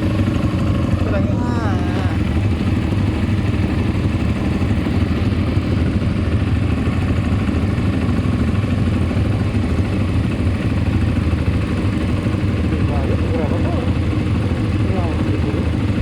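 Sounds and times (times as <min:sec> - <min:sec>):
atv engine droning: 0:00.0 - 0:16.0.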